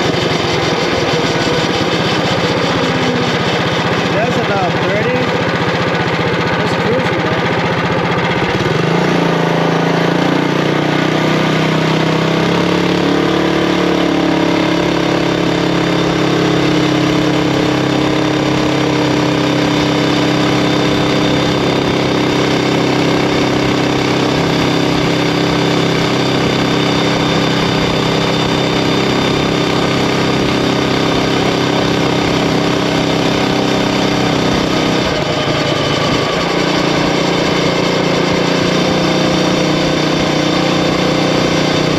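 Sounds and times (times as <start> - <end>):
mini bike engine at full throttle: 0.0 - 41.9.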